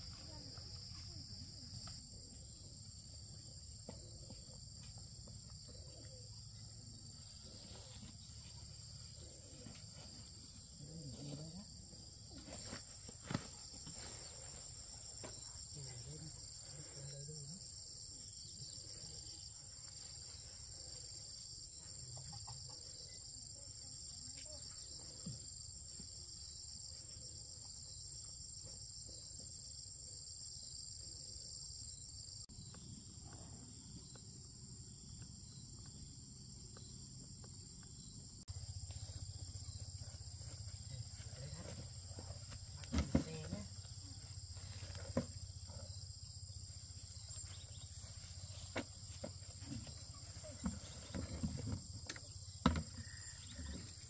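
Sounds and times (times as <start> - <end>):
shrill insect chorus: 5.6 - 54.0.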